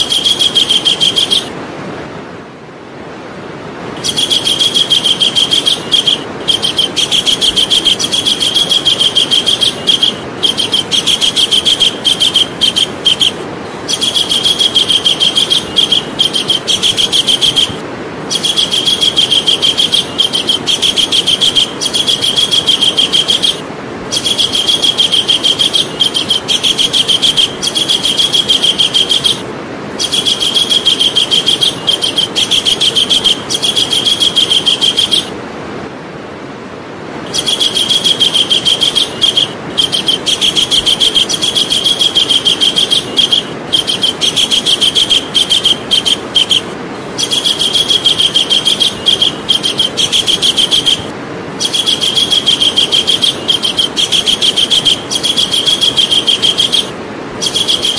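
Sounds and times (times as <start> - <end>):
kingfisher calling: 0.0 - 1.6, 4.0 - 35.4, 37.2 - 57.9
steady background noise: 0.0 - 57.9.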